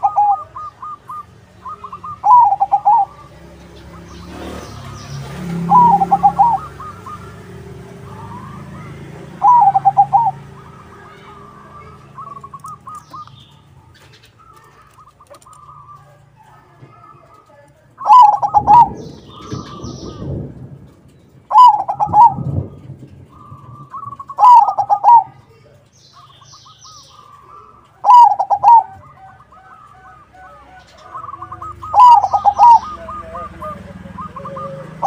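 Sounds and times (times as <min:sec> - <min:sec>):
dove trilled cooing: 0:00.0 - 0:35.0.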